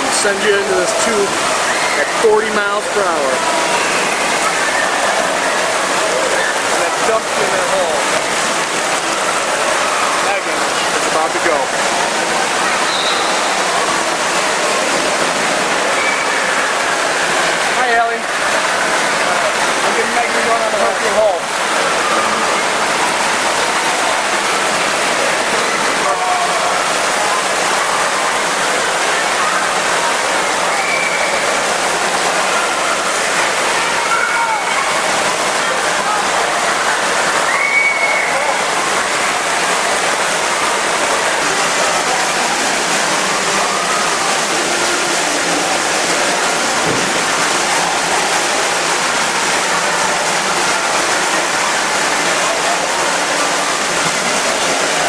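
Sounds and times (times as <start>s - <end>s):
distant voices and shouts: 0.0s - 55.0s
indoor waterpark din: 0.0s - 55.0s
running water rushing: 0.0s - 55.0s.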